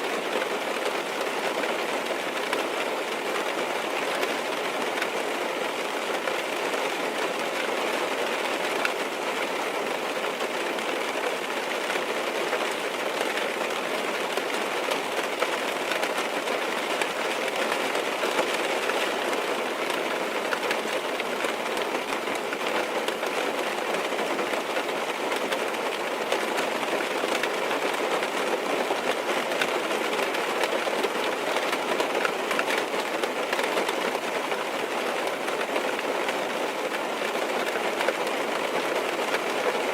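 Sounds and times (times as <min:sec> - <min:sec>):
rain on car roof: 0:00.0 - 0:39.9
faint ticks of raindrops: 0:00.1 - 0:39.9.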